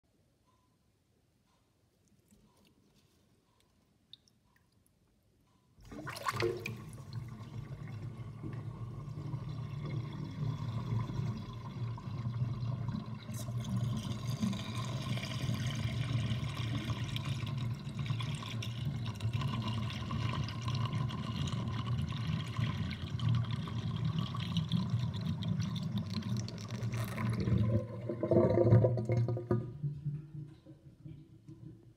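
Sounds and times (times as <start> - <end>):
water gurgling down sink drain: 5.8 - 31.9.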